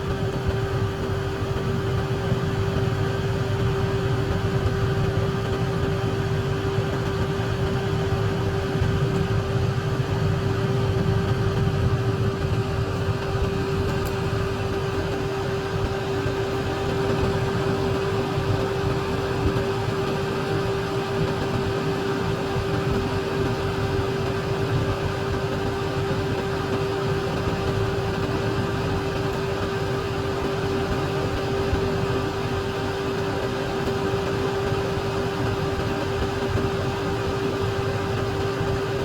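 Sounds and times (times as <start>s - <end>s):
small electric fan motor humming: 0.0s - 39.0s.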